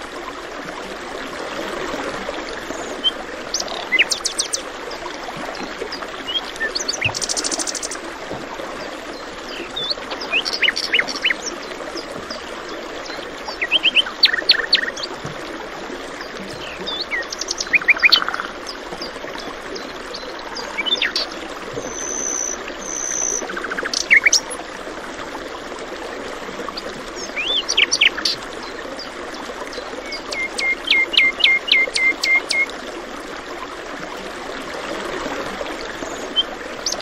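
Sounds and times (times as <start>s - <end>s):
flowing water: 0.0s - 37.0s.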